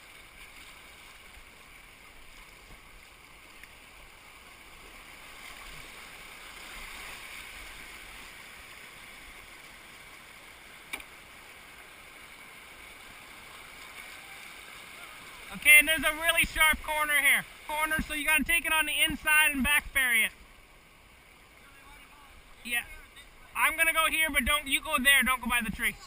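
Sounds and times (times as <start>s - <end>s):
creek water running: 0.0s - 26.0s.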